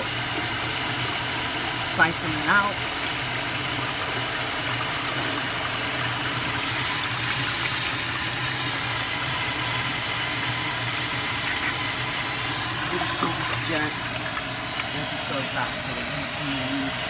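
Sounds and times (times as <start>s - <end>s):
toilet flushing: 0.0s - 17.0s.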